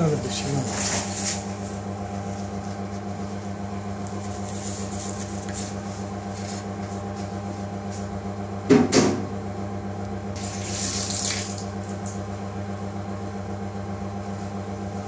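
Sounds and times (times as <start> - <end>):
kitchen machinery humming: 0.0 - 15.0.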